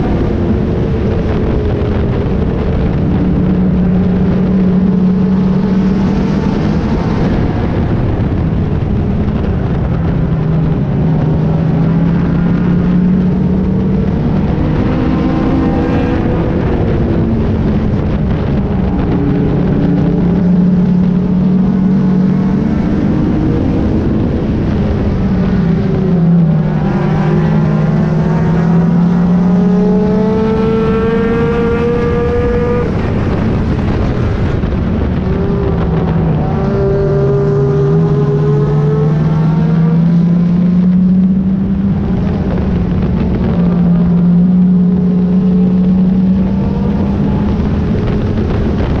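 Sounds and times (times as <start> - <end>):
race car engine revving: 0.0 - 49.0
wind and road noise: 0.0 - 49.0.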